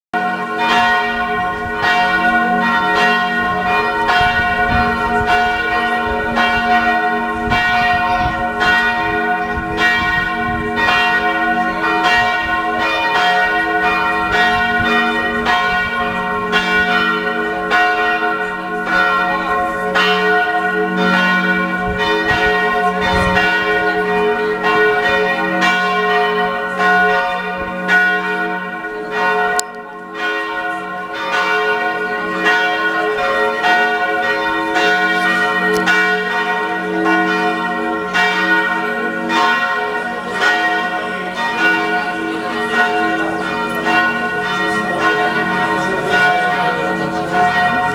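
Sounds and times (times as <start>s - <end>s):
church bells pealing: 0.2s - 47.9s.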